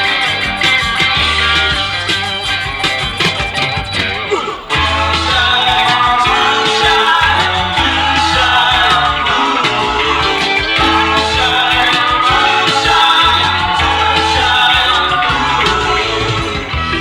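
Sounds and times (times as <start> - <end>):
rock music with guitar and bass: 0.0 - 17.0.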